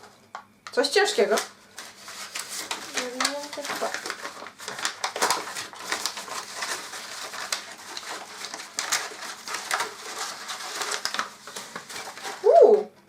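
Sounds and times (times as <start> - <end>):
paper packaging rustling: 0.0 - 12.8.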